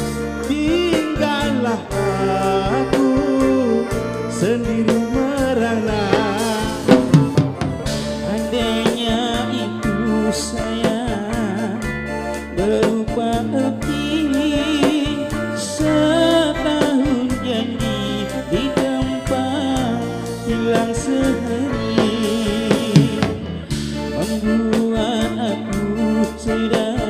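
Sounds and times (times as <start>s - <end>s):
bass line: 0.0s - 27.0s
electric guitar: 0.0s - 27.0s
electronic keyboard: 0.0s - 27.0s
person singing: 0.0s - 27.0s.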